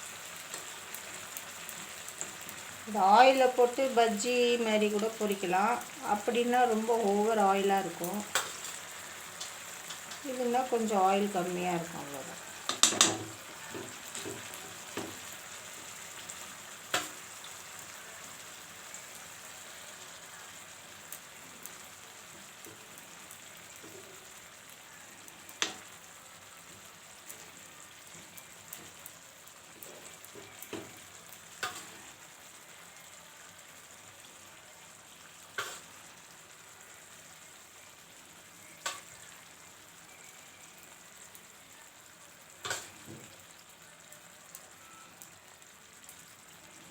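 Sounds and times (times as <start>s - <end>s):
potatoes sizzling in oil: 0.0s - 46.9s.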